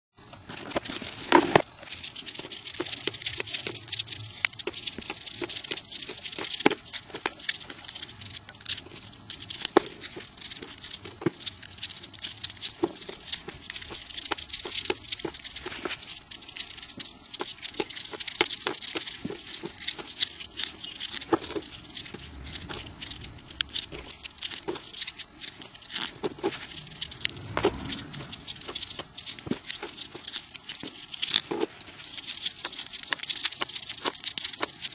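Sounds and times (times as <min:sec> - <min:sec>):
paper rustling and crinkling: 0:00.2 - 0:34.9.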